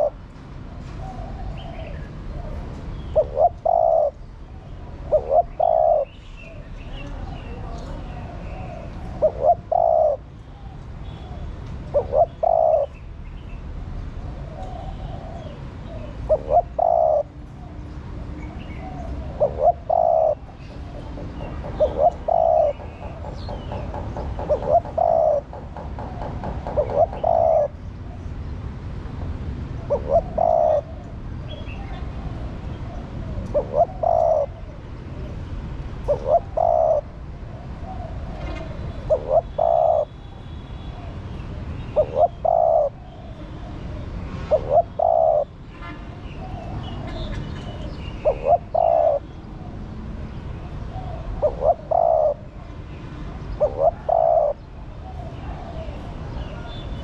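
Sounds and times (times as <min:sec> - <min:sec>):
dove cooing: 0:00.0 - 0:00.2, 0:00.9 - 0:13.0, 0:14.3 - 0:17.8, 0:18.4 - 0:28.3, 0:29.7 - 0:45.6, 0:46.4 - 0:52.7, 0:53.5 - 0:56.8.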